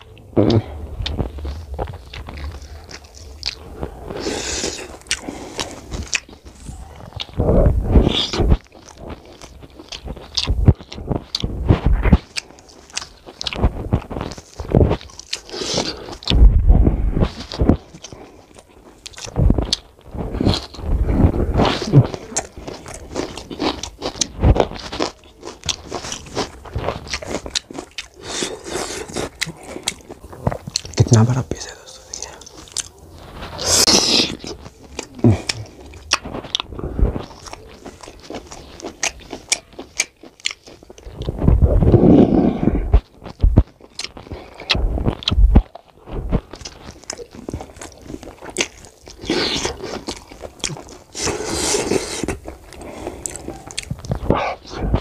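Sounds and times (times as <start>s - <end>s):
wet chewing sounds: 0.0s - 55.0s.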